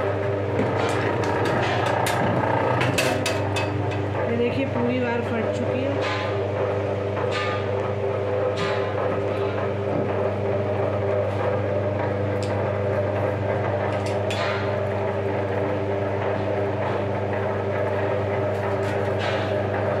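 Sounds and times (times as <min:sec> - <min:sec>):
wire stripping machine motor hum: 0:00.0 - 0:20.0.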